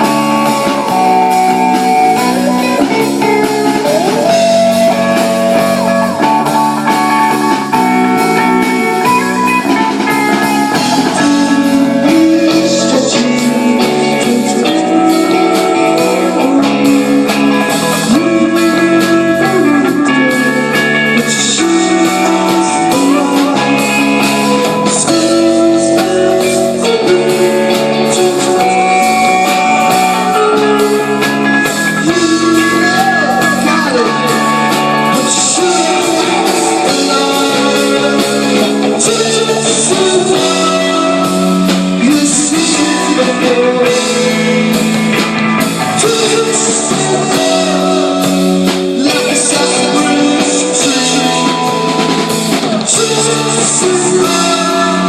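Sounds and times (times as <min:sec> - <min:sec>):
bass guitar: 0:00.0 - 0:55.0
drums with cymbal hits: 0:00.0 - 0:55.0
electric guitars: 0:00.0 - 0:55.0.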